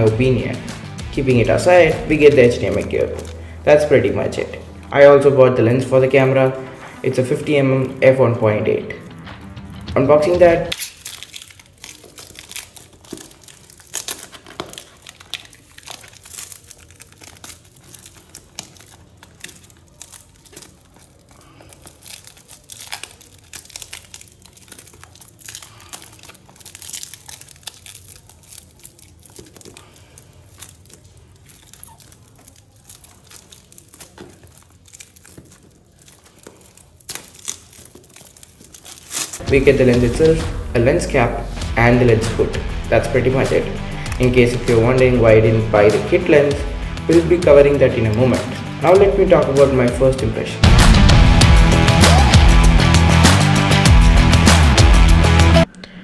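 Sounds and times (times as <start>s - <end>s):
plastic shrink-wrap crinkling and tearing: 0.0s - 55.7s.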